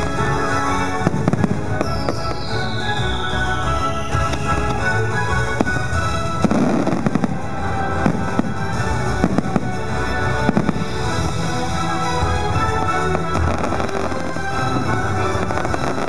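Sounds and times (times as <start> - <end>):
fireworks bangs: 0.0 - 3.4, 4.1 - 16.0
orchestral music on loudspeakers: 0.0 - 16.0.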